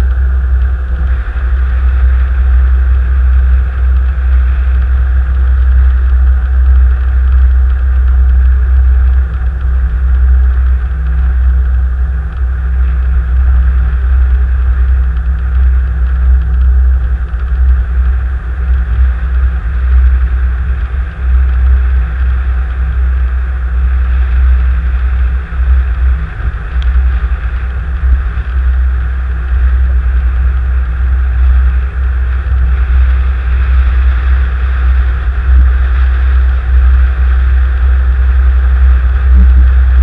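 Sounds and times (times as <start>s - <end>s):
car engine and road noise: 0.0s - 40.0s.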